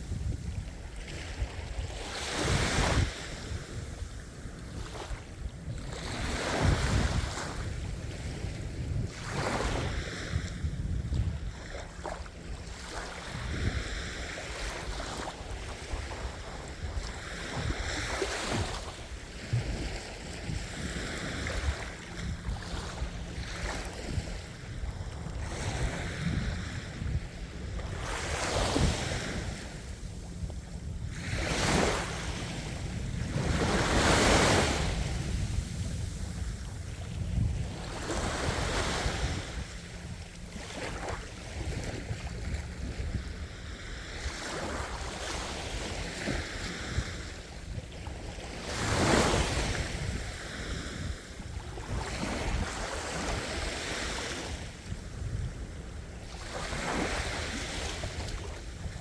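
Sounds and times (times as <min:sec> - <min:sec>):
ocean waves breaking on shore: 0:00.0 - 0:59.0
wind rumble on microphone: 0:00.0 - 0:59.0.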